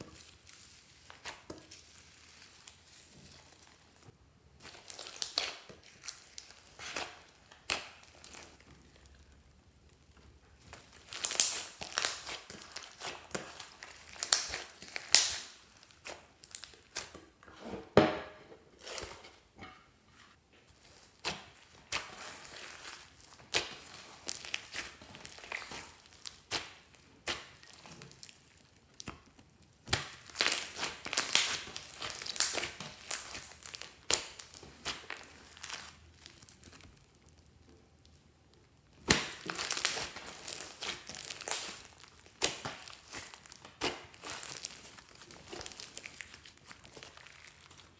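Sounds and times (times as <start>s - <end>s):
slime squished by hand: 0.0s - 17.2s, 20.7s - 47.9s.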